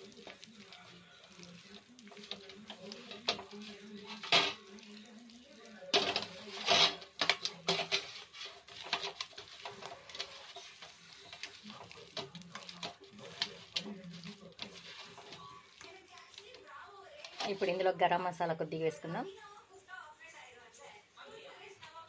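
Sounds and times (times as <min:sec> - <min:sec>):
hand squishing wet marinade: 0:00.0 - 0:17.8.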